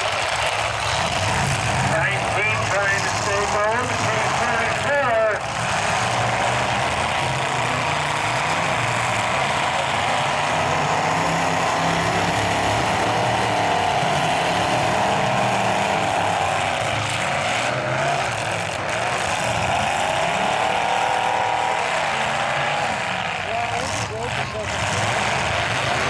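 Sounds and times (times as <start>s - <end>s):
truck engines revving hard: 0.0s - 26.0s.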